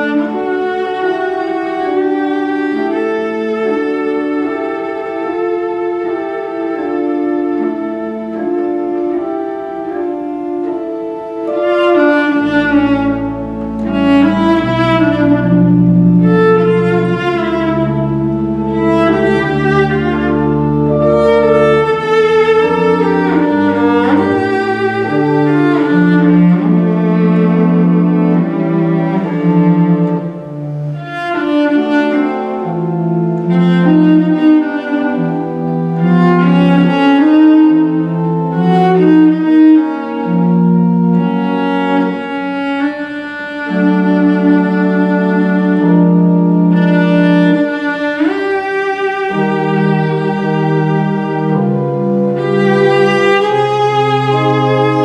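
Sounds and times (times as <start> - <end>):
bowed cello melody: 0.0 - 55.0
deep held bass notes: 0.0 - 55.0
sustained organ chords: 0.0 - 55.0.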